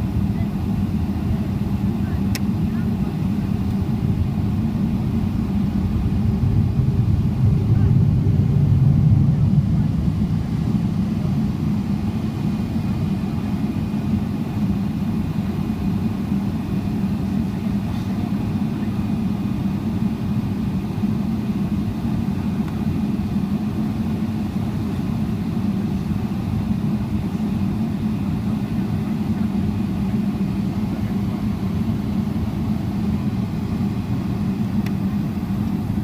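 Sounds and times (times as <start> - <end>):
airplane cabin drone: 0.0 - 36.0.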